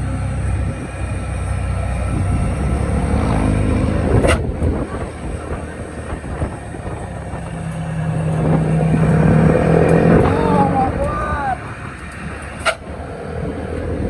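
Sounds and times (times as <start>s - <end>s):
vehicle engines in traffic: 0.0s - 14.0s.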